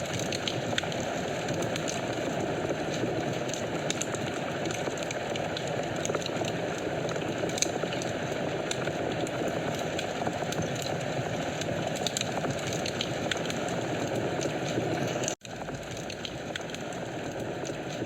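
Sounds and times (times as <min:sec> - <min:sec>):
fire crackles and pops: 0:00.0 - 0:18.0
fireplace flames hissing: 0:00.0 - 0:18.0.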